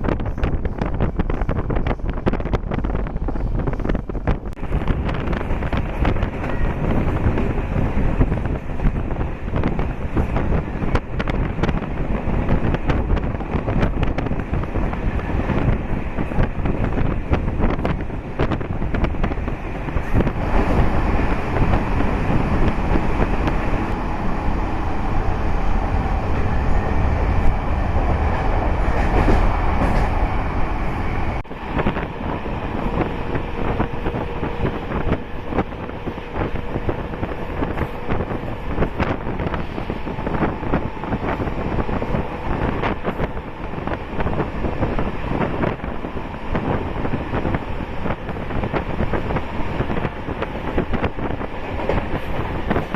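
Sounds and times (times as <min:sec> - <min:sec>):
train rolling on track: 0:00.0 - 0:52.9
wind buffeting microphone: 0:00.0 - 0:52.9.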